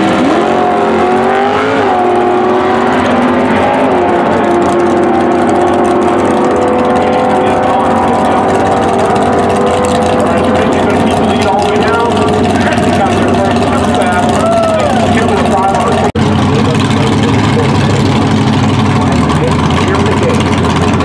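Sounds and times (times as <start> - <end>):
engines accelerating at full throttle: 0.0 - 21.0.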